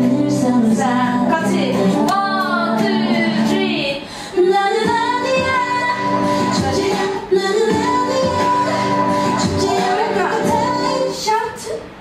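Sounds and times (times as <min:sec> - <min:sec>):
musical accompaniment: 0:00.0 - 0:11.3
woman singing pop melody: 0:00.0 - 0:11.9.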